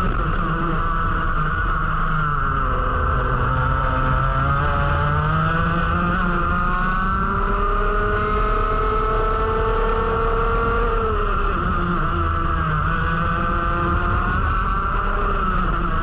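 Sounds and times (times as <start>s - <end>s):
kart engine revving: 0.0s - 16.0s.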